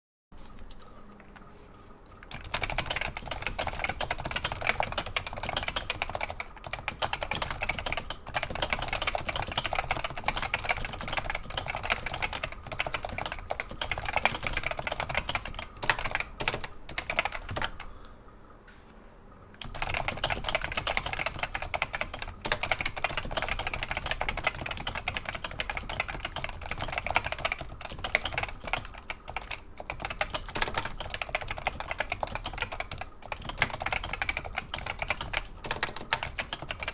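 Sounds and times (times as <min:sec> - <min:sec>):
keyboard typing: 0:02.1 - 0:18.1, 0:19.6 - 0:36.9.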